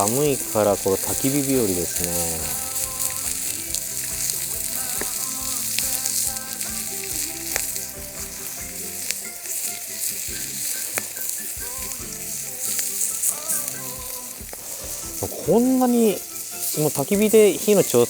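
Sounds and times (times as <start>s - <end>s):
chicken sizzling on a griddle: 0.0s - 18.0s
sharp pops: 0.0s - 18.0s.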